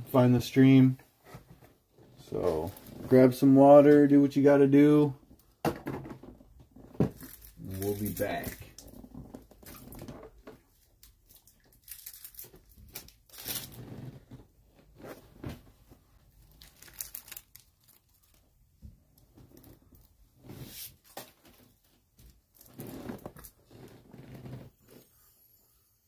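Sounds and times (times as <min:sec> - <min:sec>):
faint rustling and crinkling: 0:00.0 - 0:05.5, 0:06.2 - 0:25.4.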